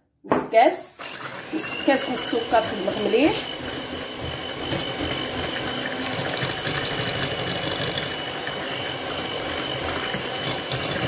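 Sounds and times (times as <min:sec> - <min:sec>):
electric hand mixer whisking: 0:01.0 - 0:11.0.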